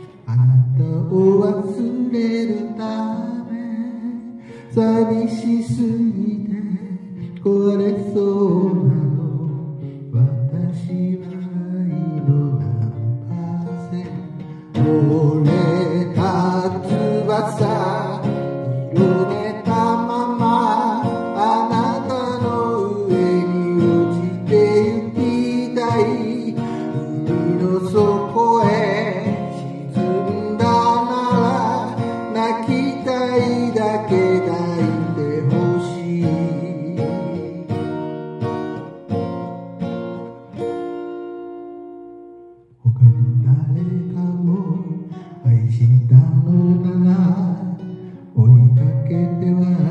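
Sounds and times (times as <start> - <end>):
person singing: 0.0 - 38.0, 42.8 - 49.9
acoustic guitar: 0.0 - 49.9.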